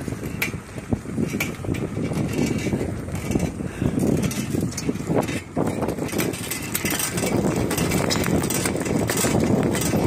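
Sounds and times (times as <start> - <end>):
bicycle clicks and rattles: 0.0 - 10.0
tyres rolling on asphalt: 0.0 - 10.0
wind on microphone: 0.0 - 10.0.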